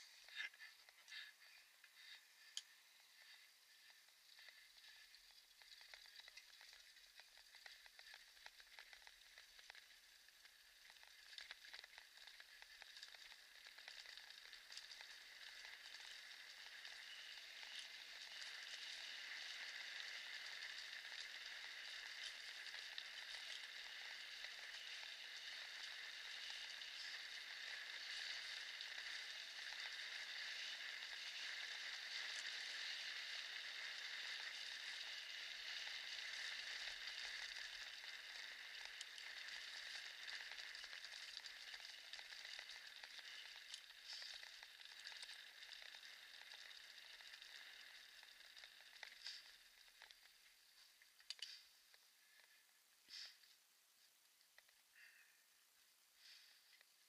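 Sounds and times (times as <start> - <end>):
small ticks from stones: 0.0 - 55.3
scooter wheels rolling on cobblestones: 2.9 - 51.6.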